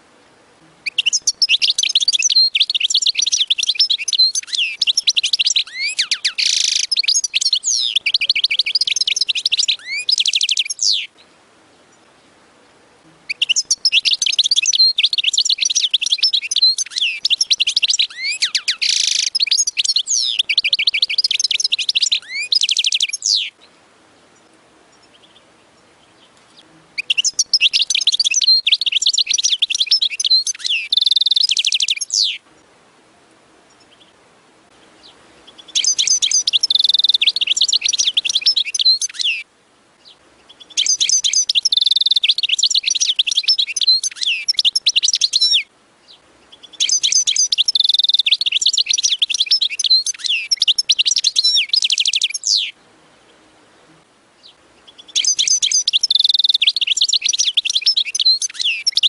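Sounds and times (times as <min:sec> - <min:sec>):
goldfinch twittering song: 0:00.8 - 0:11.2, 0:13.3 - 0:23.8, 0:24.4 - 0:32.4, 0:33.7 - 0:52.8, 0:54.4 - 0:59.0.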